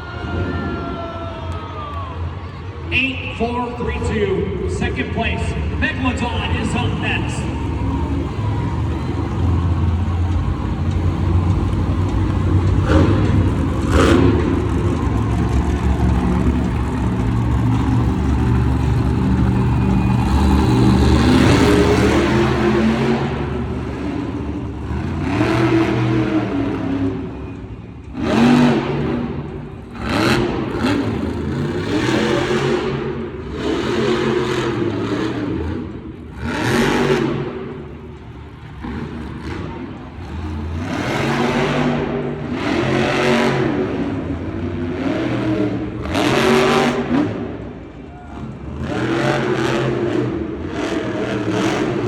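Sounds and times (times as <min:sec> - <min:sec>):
loud surges of noise: 0:00.0 - 0:52.0
truck engine revving hard: 0:02.8 - 0:52.0.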